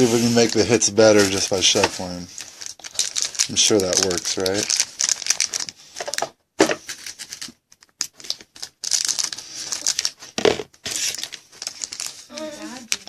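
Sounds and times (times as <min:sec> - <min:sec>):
foil card packs crinkling: 0:00.0 - 0:13.0.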